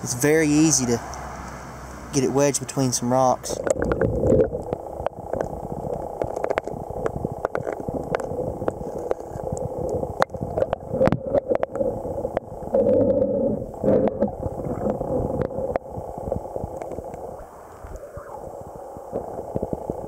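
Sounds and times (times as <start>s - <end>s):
water lapping and gurgling: 3.6s - 20.0s.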